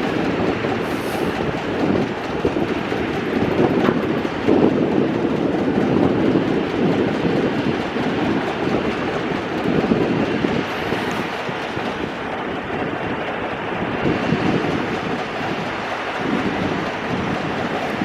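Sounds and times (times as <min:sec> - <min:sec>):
gas engine clattering: 0:00.0 - 0:18.0.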